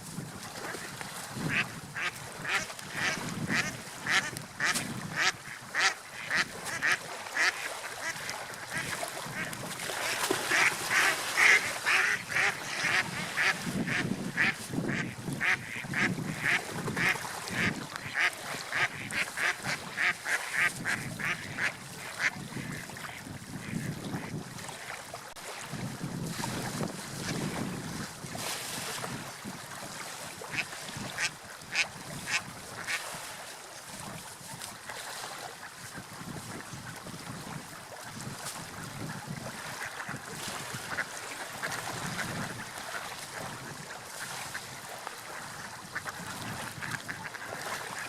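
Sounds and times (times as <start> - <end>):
surf: 0.0 - 48.0
wind: 0.0 - 48.0.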